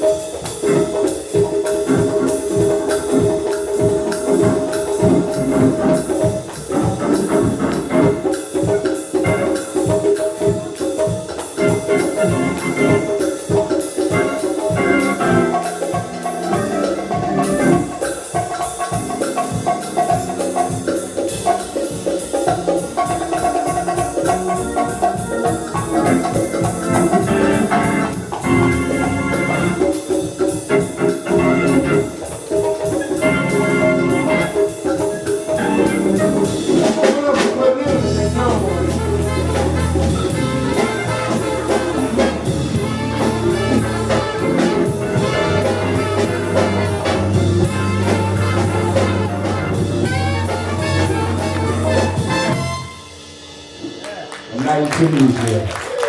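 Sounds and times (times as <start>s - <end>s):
jazz band playing: 0.0s - 56.0s.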